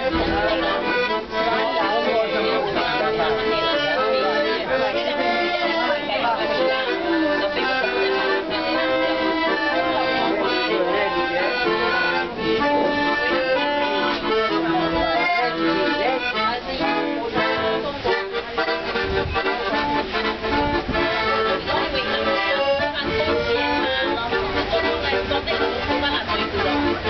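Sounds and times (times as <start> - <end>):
accordion playing a tune: 0.0 - 27.0.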